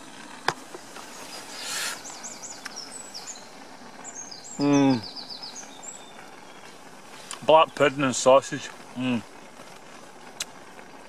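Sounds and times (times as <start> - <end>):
small birds chirping: 0.0 - 10.6
outdoor background noise: 0.0 - 11.0.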